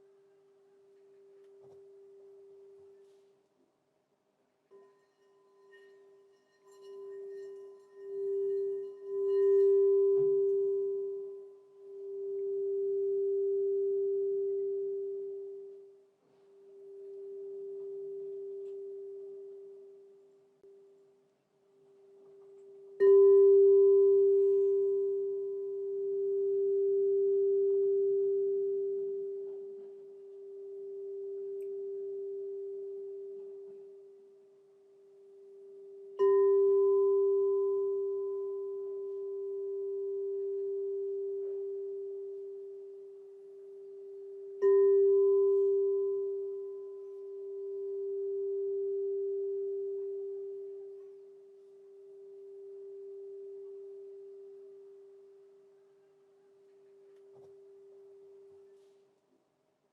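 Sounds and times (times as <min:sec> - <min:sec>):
crystal singing bowl ringing: 0:04.7 - 0:20.9, 0:22.0 - 0:56.6.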